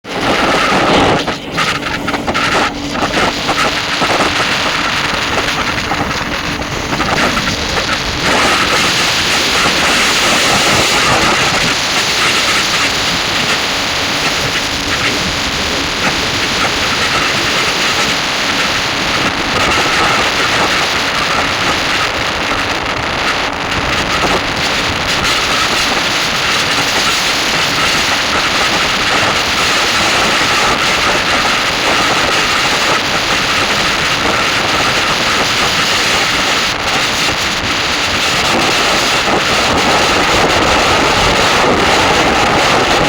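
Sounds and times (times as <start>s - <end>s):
motorcycle engine and road noise: 0.0s - 43.0s
wind rushing over microphone: 0.0s - 43.0s.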